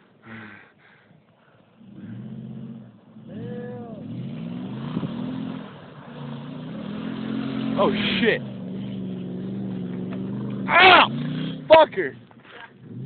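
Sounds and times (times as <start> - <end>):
truck engine revving: 1.7 - 13.0.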